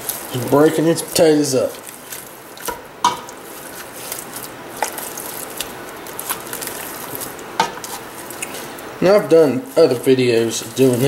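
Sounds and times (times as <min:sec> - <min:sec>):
low steady hiss: 0:00.0 - 0:11.0
masher squishing potatoes: 0:00.0 - 0:11.0.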